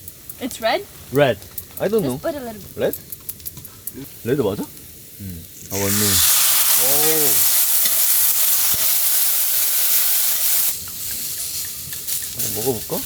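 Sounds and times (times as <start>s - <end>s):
wine sizzling in a hot pan: 0.0s - 13.0s.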